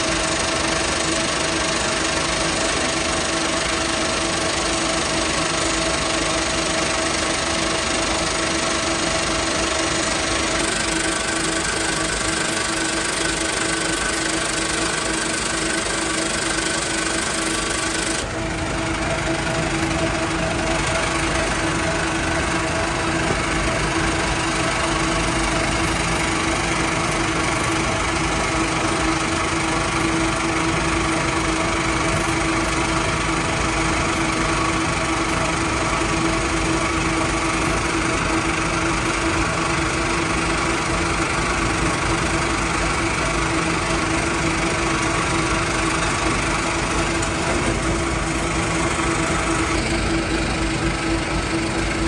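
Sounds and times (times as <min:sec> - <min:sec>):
machinery droning: 0:00.0 - 0:52.0.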